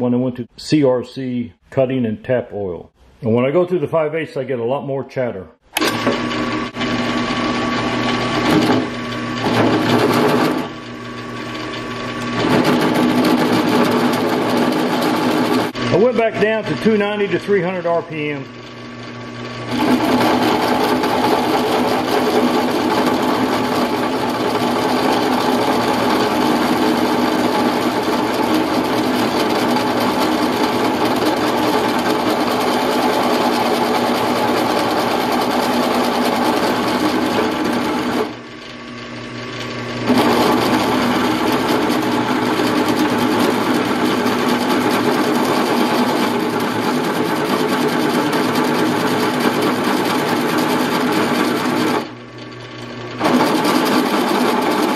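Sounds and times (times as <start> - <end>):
drill press running: 5.7 - 54.9.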